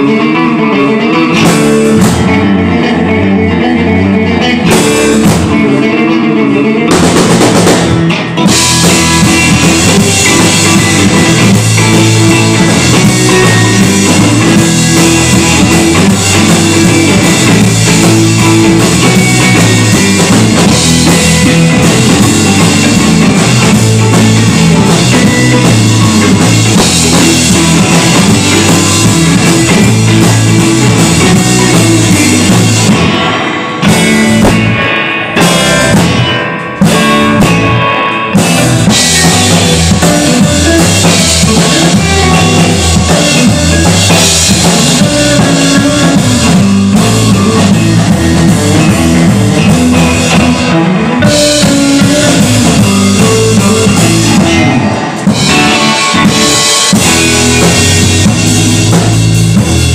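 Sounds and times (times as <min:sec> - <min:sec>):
electric bass: 0:00.0 - 0:59.9
electric guitars playing surf rock: 0:00.0 - 0:59.9
drum kit and cymbals: 0:00.8 - 0:06.1, 0:06.8 - 0:59.9.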